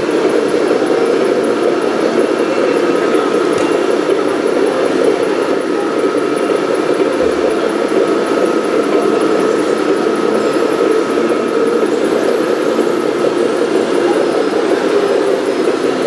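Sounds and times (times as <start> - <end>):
thin steady whine: 0.0 - 16.0.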